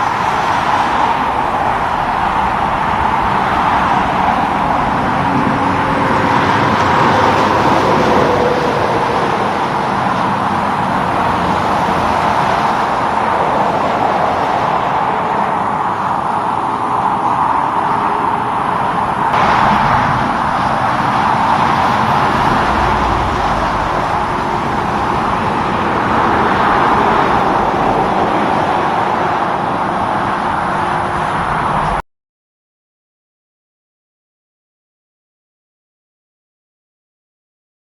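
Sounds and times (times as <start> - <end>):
highway traffic noise: 0.0 - 32.0.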